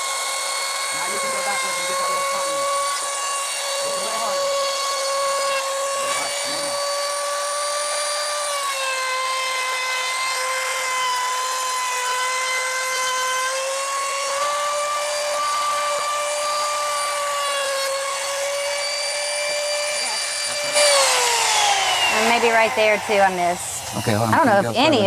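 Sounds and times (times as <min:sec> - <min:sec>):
router motor whine: 0:00.0 - 0:25.0.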